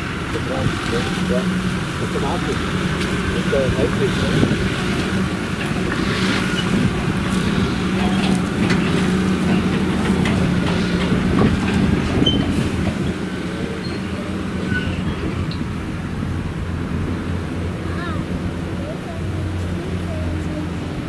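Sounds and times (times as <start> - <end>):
tractor engine running: 0.0 - 21.0
trailer clanking and rattling: 0.0 - 21.0.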